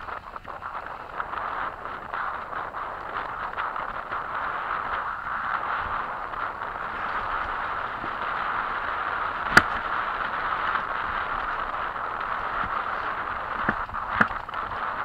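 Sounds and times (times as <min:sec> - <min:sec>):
bike tyres on dirt trail: 0:00.0 - 0:15.0
wind rushing: 0:00.0 - 0:15.0.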